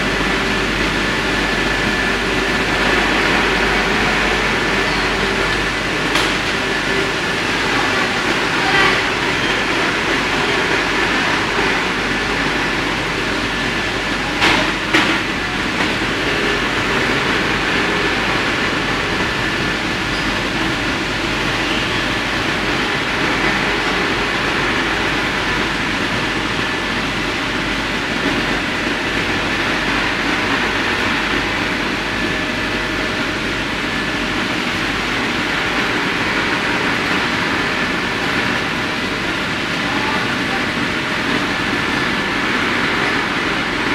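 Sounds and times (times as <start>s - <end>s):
machine fans and conveyor noise: 0.0s - 43.9s.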